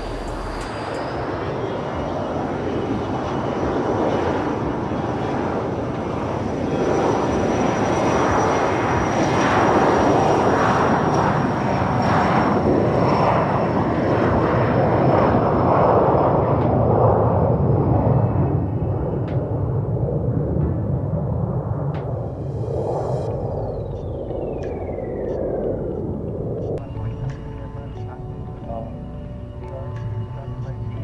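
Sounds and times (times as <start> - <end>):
jet engine roar and whine: 0.0 - 31.0
wind buffeting microphone: 0.0 - 31.0.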